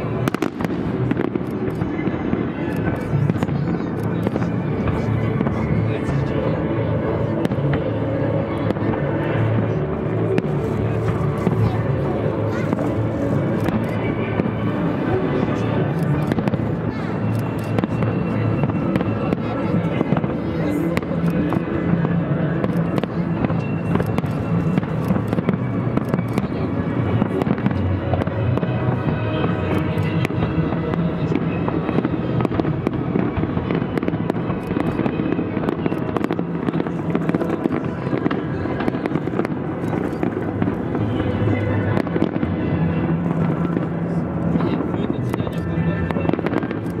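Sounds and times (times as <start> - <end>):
background music: 0.0 - 47.0
fireworks bursting and crackling: 0.0 - 47.0.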